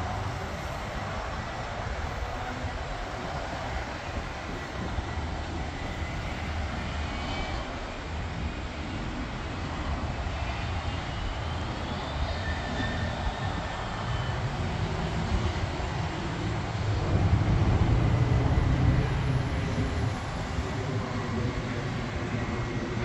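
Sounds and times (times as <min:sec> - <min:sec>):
distant jet engines running: 0:00.0 - 0:23.0.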